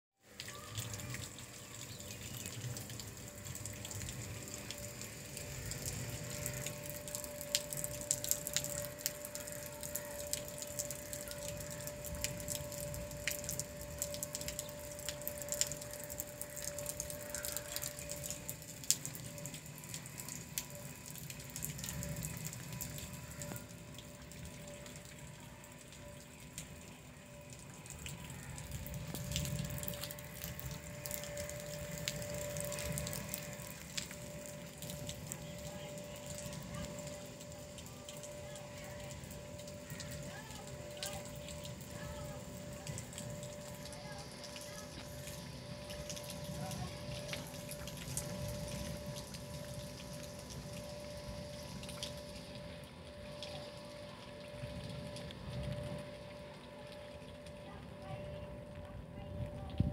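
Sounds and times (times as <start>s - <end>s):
faint steady hum: 0.2s - 59.9s
water dripping: 0.2s - 59.9s.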